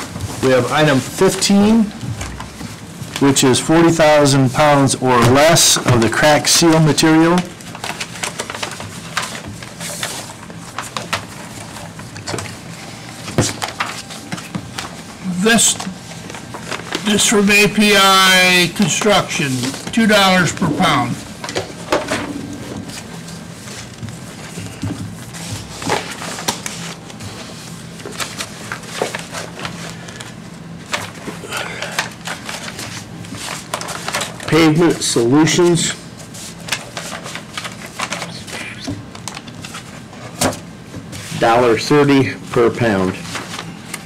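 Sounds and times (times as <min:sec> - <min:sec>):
steady low hum: 0:00.0 - 0:44.0
paper rustling: 0:04.7 - 0:44.0.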